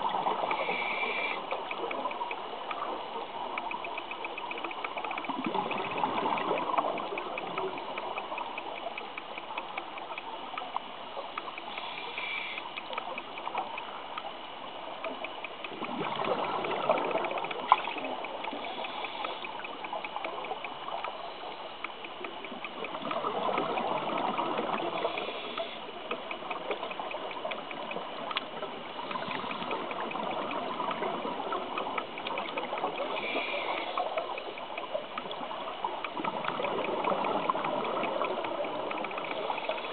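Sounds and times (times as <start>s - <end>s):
underwater exhaled bubbles: 0.0s - 8.8s, 15.1s - 39.9s
faint steady ticking: 0.0s - 39.9s.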